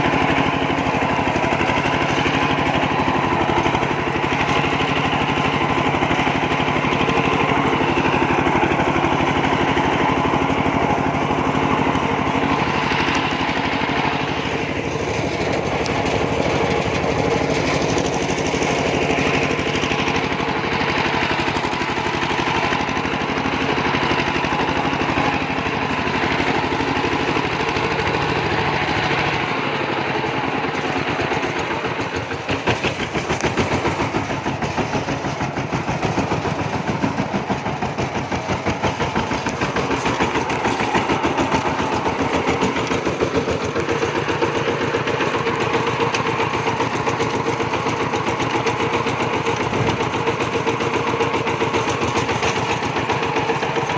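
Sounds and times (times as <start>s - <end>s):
diesel tractor engine chugging: 0.0s - 53.9s.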